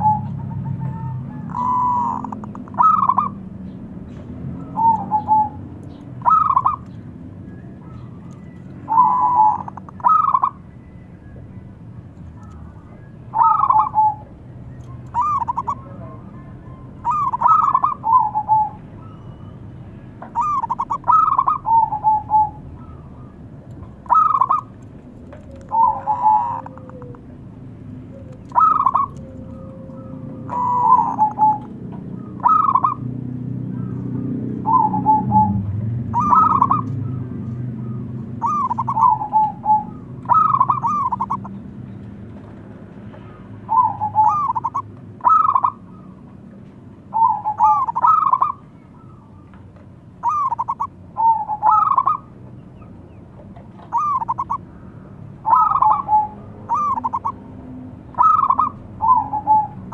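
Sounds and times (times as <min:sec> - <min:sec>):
dove cooing: 0:00.0 - 0:03.7, 0:04.5 - 0:10.7, 0:12.4 - 0:19.5, 0:20.2 - 0:41.6, 0:43.2 - 0:46.4, 0:47.1 - 0:49.6, 0:50.2 - 0:59.9.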